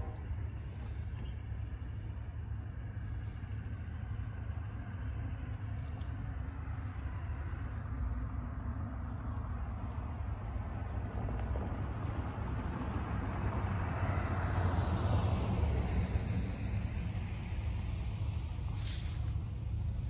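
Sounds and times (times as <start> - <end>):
distant freight train rumble: 0.0 - 20.0
light road traffic: 0.0 - 20.0.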